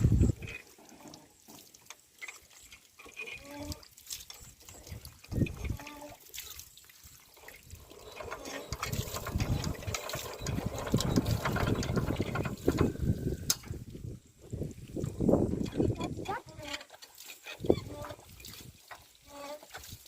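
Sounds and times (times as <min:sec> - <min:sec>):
water pouring and splashing: 0:00.0 - 0:20.0.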